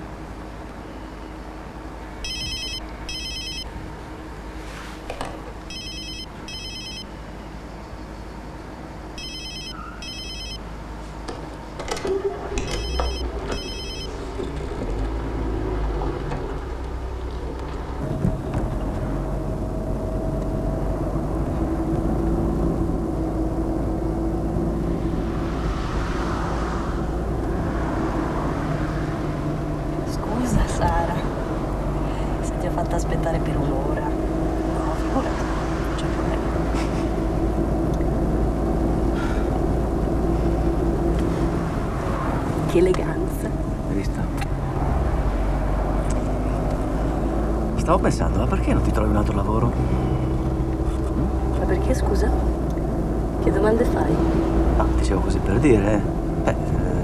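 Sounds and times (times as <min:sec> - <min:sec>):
car engine starting and driving: 0:00.0 - 0:57.0.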